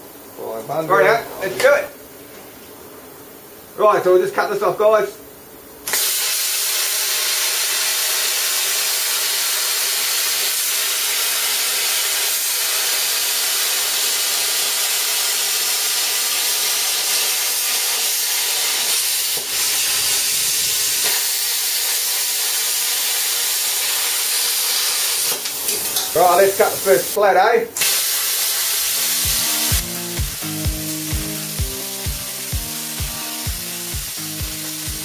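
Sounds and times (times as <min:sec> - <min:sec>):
plasma cutter hissing: 0:05.9 - 0:27.2, 0:27.8 - 0:35.0.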